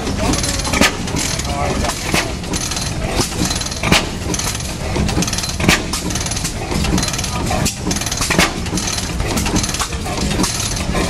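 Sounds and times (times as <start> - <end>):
light mechanical knocks: 0.0 - 11.0
oil field engine chugging: 0.0 - 11.0.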